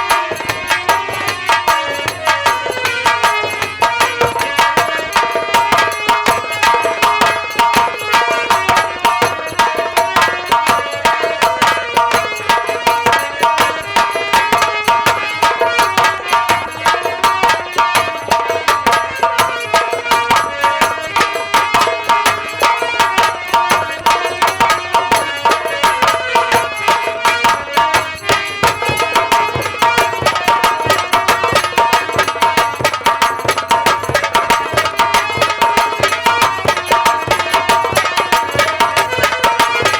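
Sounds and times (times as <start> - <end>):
fast hand-drum rhythm: 0.0 - 39.9.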